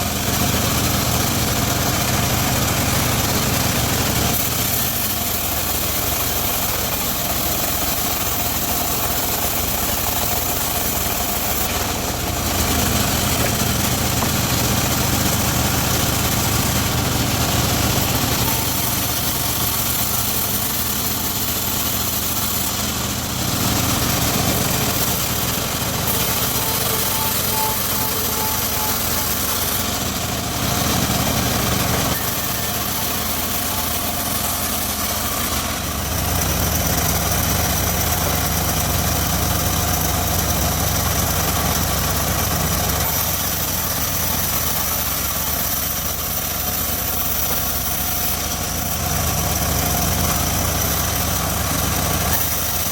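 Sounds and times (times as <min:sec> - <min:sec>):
circular saw engine running: 0:00.0 - 0:52.9.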